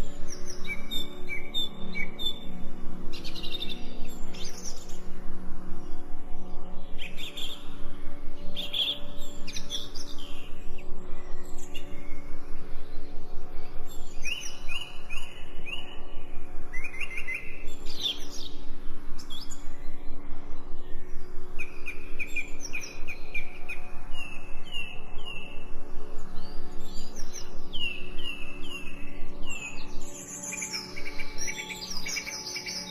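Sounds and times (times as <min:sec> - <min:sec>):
steady low drone: 0:00.0 - 0:32.6.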